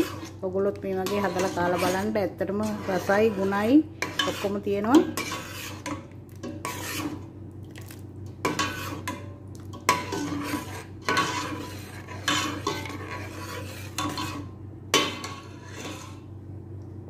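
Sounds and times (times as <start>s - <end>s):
ladle scraping a metal pot: 0.0s - 7.3s, 8.4s - 16.3s.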